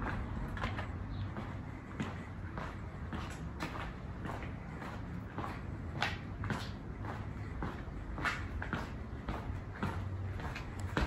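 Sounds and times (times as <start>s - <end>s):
footsteps walking: 0.0s - 11.0s.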